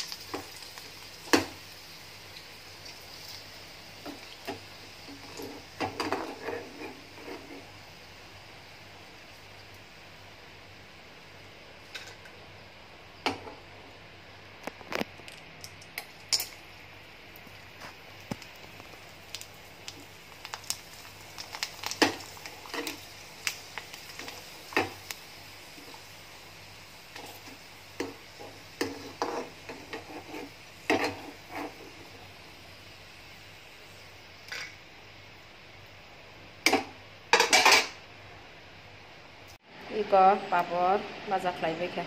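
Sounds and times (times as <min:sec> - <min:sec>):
oil frying hiss: 0:00.0 - 0:42.0.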